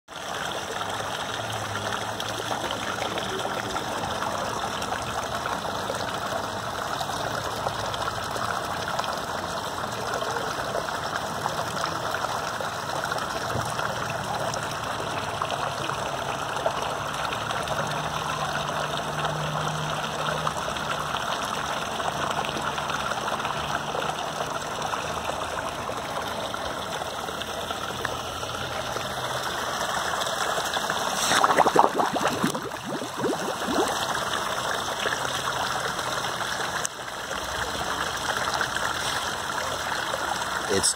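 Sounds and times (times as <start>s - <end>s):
flowing water rushing: 0.1s - 40.9s.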